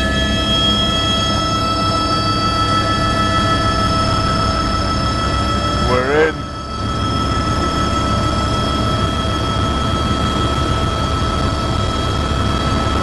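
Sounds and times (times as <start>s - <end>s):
helicopter turbine and rotor: 0.0s - 13.0s.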